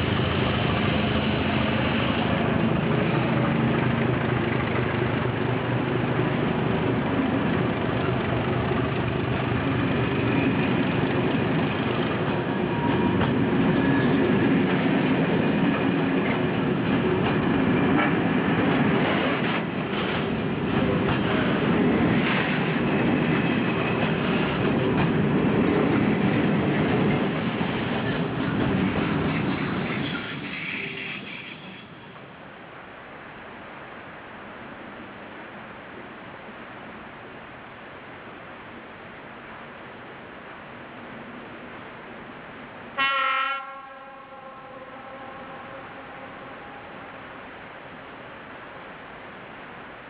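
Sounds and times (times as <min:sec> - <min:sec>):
diesel locomotive engine: 0:00.0 - 0:50.0.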